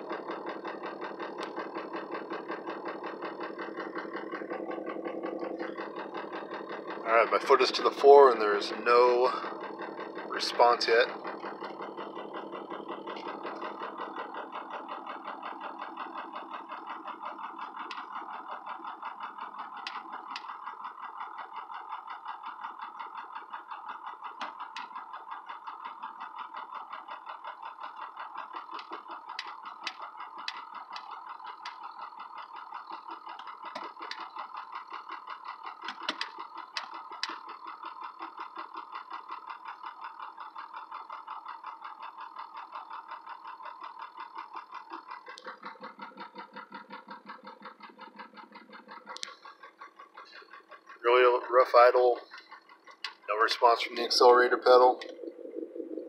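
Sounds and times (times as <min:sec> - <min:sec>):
diesel engine idling roughly: 0:00.0 - 0:56.0.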